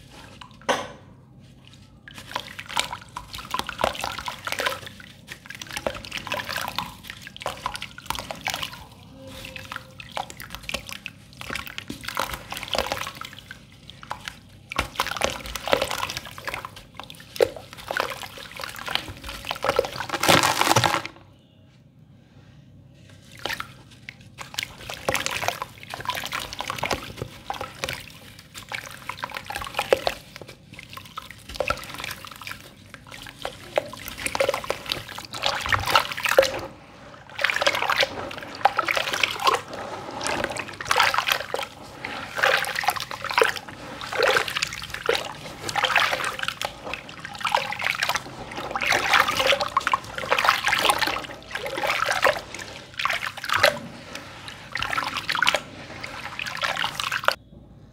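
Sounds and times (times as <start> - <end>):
hands sloshing through slurry: 0.0 - 21.2, 22.9 - 57.4
water splashes: 1.7 - 21.2, 23.2 - 57.4
trickling water: 1.8 - 21.1, 23.2 - 57.4.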